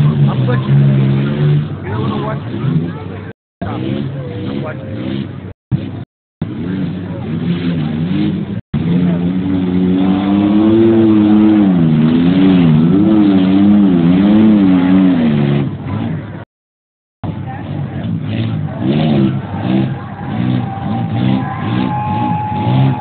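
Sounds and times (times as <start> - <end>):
race car engine revving: 0.0 - 16.5, 17.2 - 23.0.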